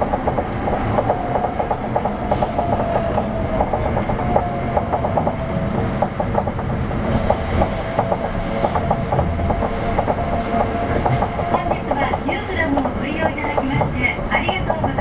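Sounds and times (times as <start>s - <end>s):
train low rumble: 0.0s - 15.0s
train whine: 0.0s - 15.0s.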